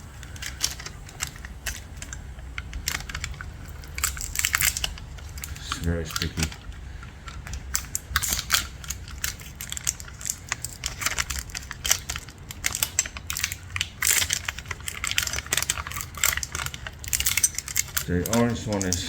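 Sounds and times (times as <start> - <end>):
small parts clicking and crinkling: 0.0 - 19.0.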